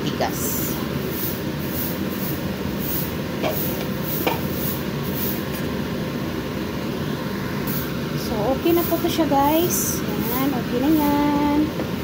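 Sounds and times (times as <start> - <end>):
gas burner hissing: 0.4 - 12.0.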